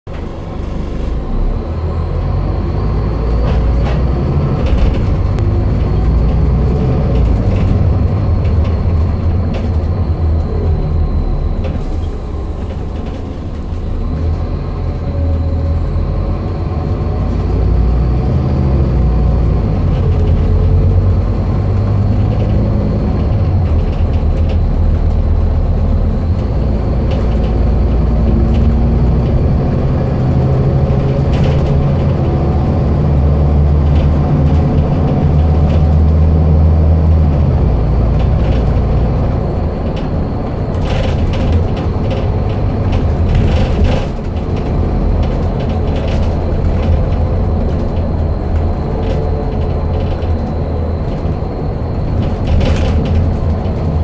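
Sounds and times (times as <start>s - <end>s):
bus engine low rumble: 0.0s - 54.0s.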